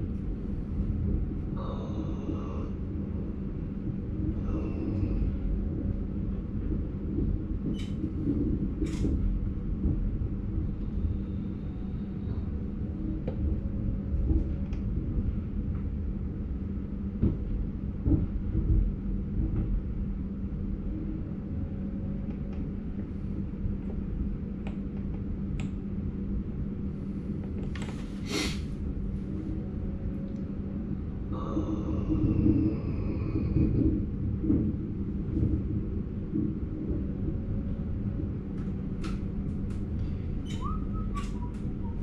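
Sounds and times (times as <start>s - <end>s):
constant hum: 0.0s - 42.0s
train rolling slowly: 0.0s - 42.0s.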